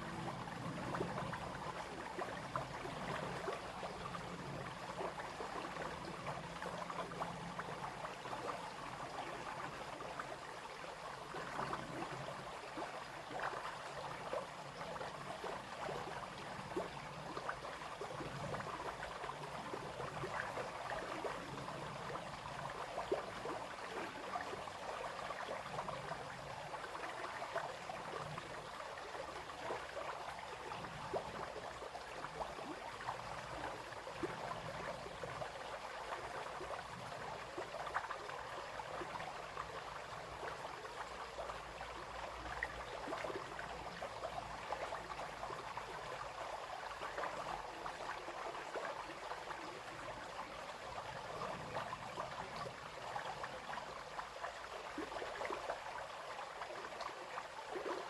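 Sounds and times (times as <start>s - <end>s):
brook water flowing and splashing: 0.0s - 58.0s.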